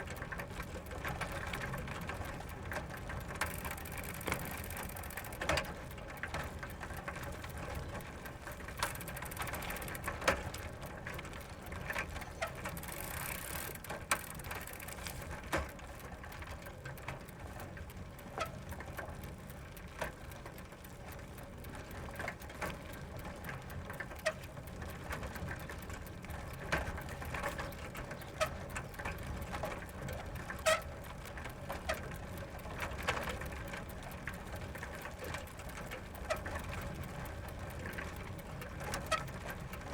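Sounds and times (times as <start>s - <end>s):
bicycle tyres on gravel: 0.0s - 39.9s
freewheel ticking: 0.0s - 39.9s
gravel crunches and clicks: 0.0s - 39.9s.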